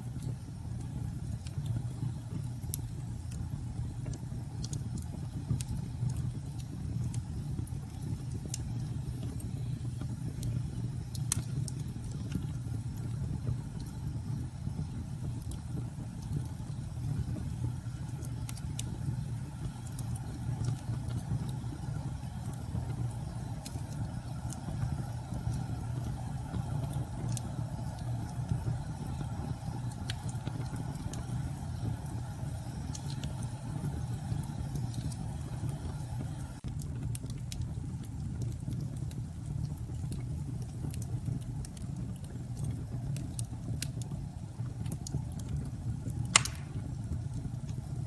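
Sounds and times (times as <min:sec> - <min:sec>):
fire popping: 0:00.0 - 0:48.0
wood fire crackling: 0:00.0 - 0:48.0.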